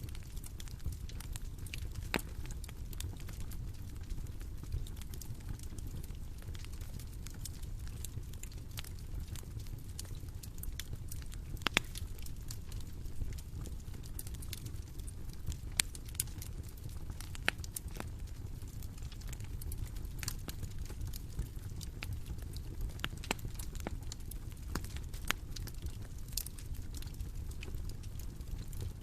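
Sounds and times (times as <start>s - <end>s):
bonfire crackling: 0.0s - 29.0s
low rumble of burning wood: 0.0s - 29.0s
pops and snaps of fire: 0.1s - 29.0s.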